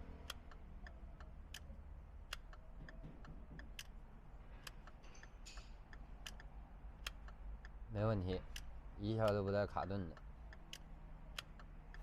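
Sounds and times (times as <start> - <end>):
turn signal ticking: 0.0 - 12.0.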